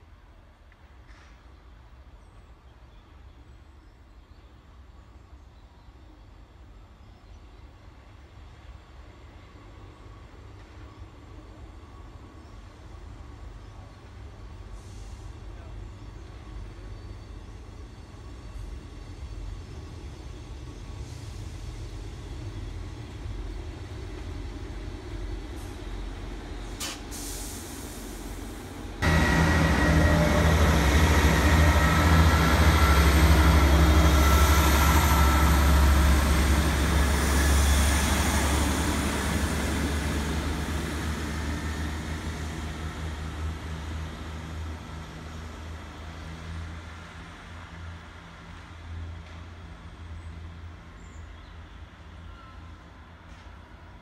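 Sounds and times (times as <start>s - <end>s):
train diesel engines droning: 3.0s - 54.0s.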